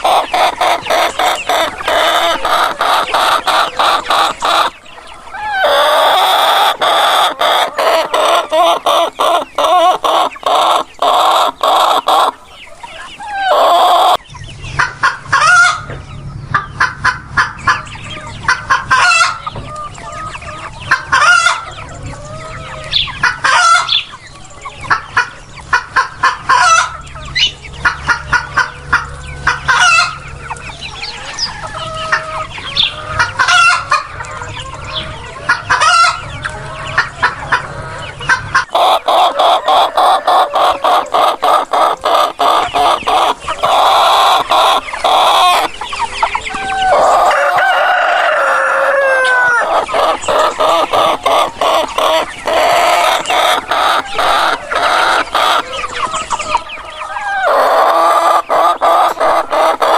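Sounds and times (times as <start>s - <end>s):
roosters crowing: 0.0s - 14.2s, 14.8s - 59.9s
chickens clucking: 0.0s - 59.9s.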